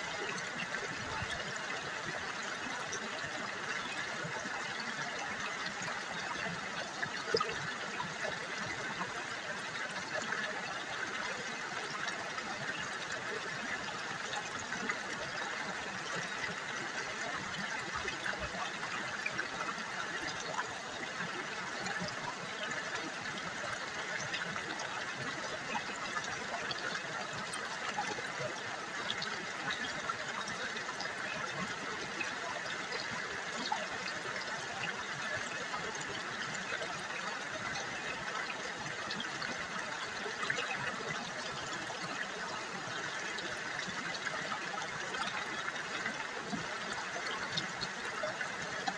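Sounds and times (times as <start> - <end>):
river water babbling: 0.0 - 48.9.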